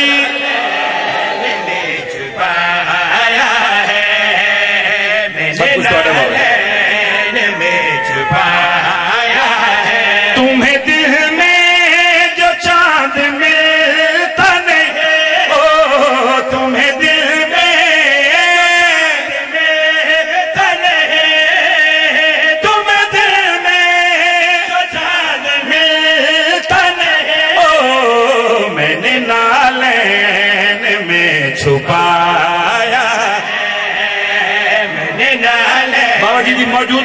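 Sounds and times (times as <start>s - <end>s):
men singing devotional chant: 0.0s - 0.8s, 1.4s - 37.0s.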